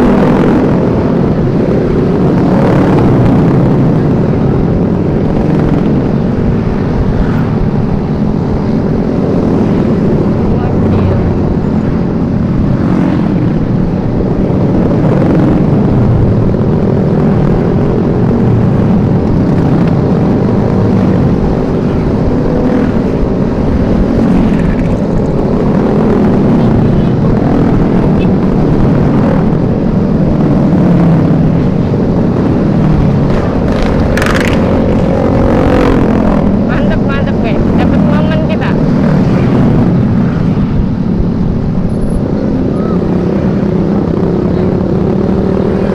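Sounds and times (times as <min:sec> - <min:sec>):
motorcycle engines running: 0:00.0 - 0:45.9
wind on microphone: 0:00.0 - 0:45.9.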